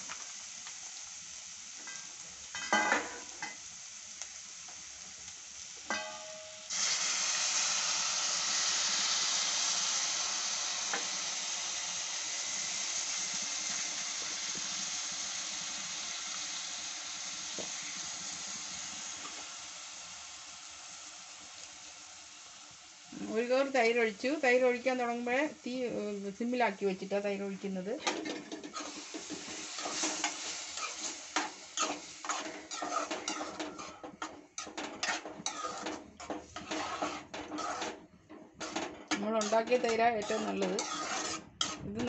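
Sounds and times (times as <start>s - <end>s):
food sizzling in a pan: 0.0s - 42.0s.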